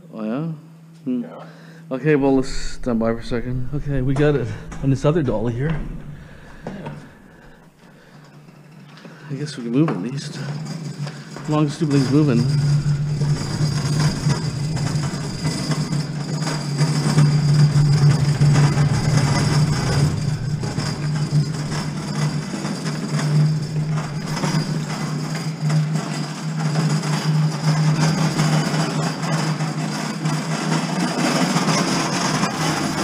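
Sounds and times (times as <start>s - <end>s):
dolly wheels rolling: 2.2s - 33.0s.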